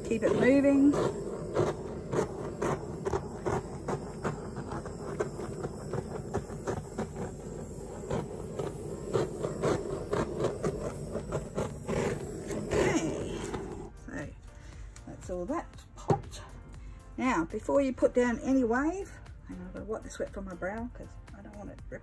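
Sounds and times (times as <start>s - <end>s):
butane torch running: 0.0s - 19.8s.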